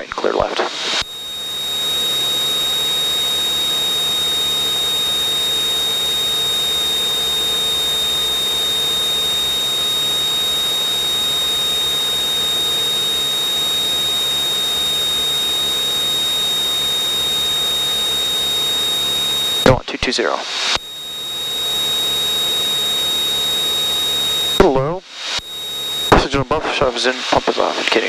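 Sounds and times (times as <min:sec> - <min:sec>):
high-pitched whine: 0:00.0 - 0:28.0.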